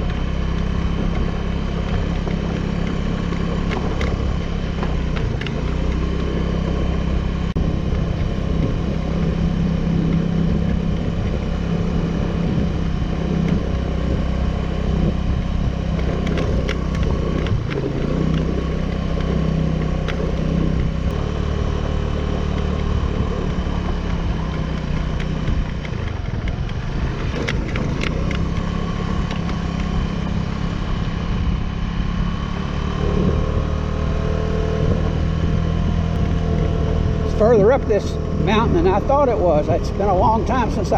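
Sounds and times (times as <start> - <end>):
road and wind noise: 0.0 - 40.9
scooter engine running: 0.0 - 40.9.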